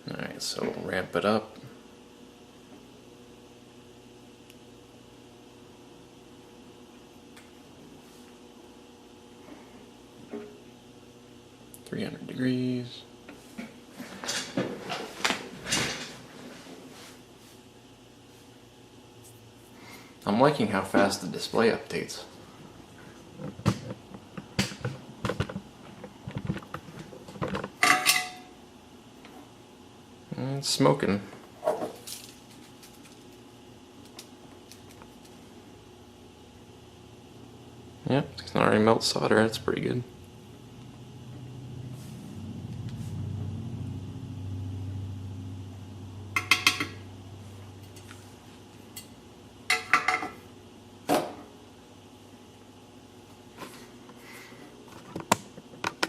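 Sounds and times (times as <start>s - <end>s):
transformer mains hum: 0.0s - 56.0s.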